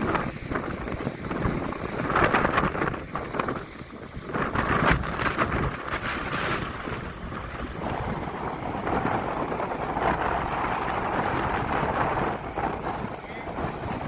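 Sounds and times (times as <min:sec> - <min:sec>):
waterfall rushing: 0:00.0 - 0:14.0
wind buffeting microphone: 0:00.0 - 0:14.0.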